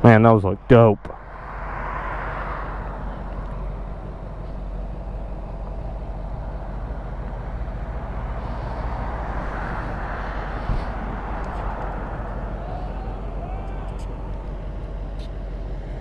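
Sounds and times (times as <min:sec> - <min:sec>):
wind noise on microphone: 0:00.0 - 0:16.0
motorcycle engine running: 0:01.1 - 0:16.0.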